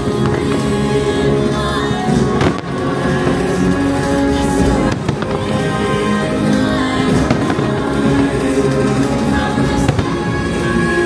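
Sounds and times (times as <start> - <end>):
fireworks bursting: 0.0 - 11.0
show music soundtrack: 0.0 - 11.0.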